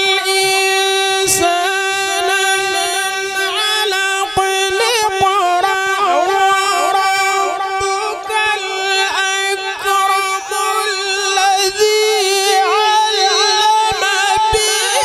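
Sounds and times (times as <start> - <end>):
person reciting melodically: 0.0 - 15.0.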